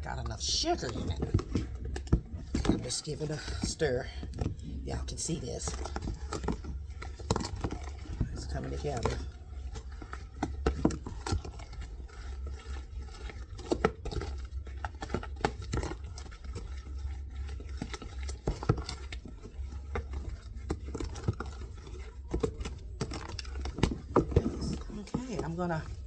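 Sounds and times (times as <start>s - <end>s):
low steady hum: 0.0s - 26.0s
spoon scraping a bowl: 0.0s - 26.0s.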